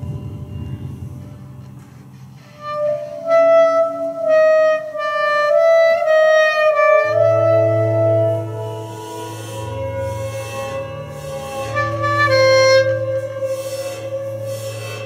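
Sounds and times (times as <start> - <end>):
low sustained tone: 0.0 - 15.0
clarinet slow melody: 2.1 - 15.0.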